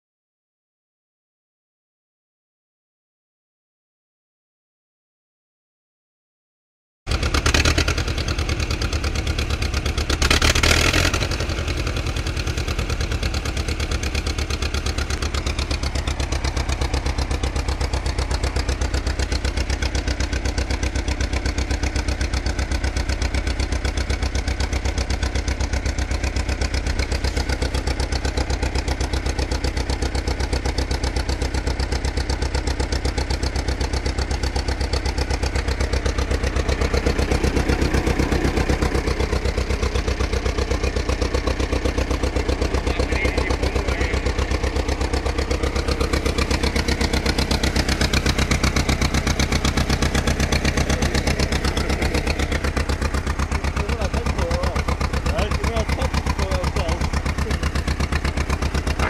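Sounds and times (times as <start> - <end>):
engine idling: 7.1 - 59.0.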